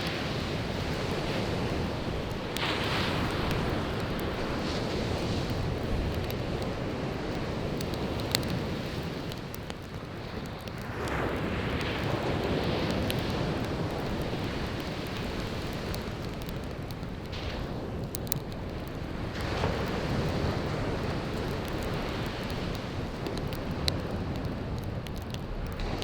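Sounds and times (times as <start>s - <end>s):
sea waves washing onto shore: 0.0s - 26.0s
wood fire crackling and popping: 0.0s - 26.0s.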